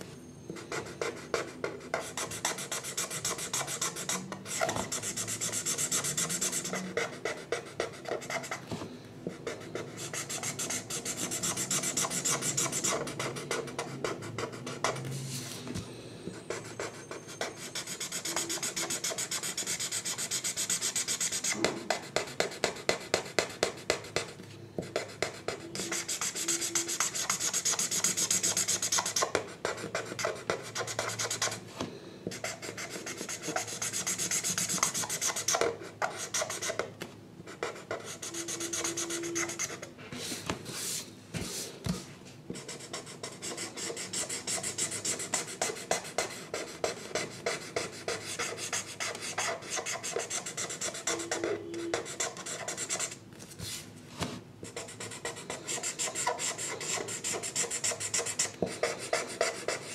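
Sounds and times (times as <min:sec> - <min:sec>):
pencil scratching on paper: 0:00.7 - 0:08.6, 0:09.5 - 0:15.1, 0:16.5 - 0:24.3, 0:24.9 - 0:31.6, 0:32.4 - 0:36.9, 0:37.5 - 0:41.7, 0:42.6 - 0:53.2, 0:54.6 - 0:59.9.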